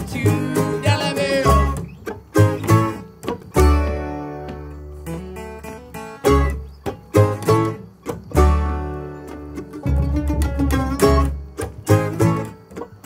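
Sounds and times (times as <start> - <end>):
acoustic bluegrass band playing: 0.0 - 13.0.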